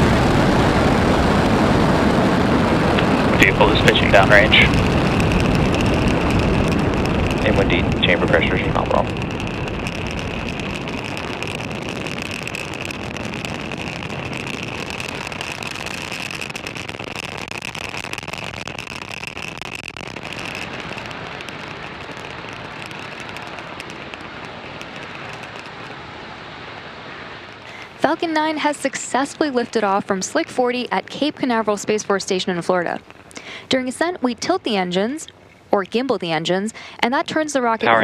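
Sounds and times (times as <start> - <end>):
rocket engines rumbling: 0.0 - 38.0.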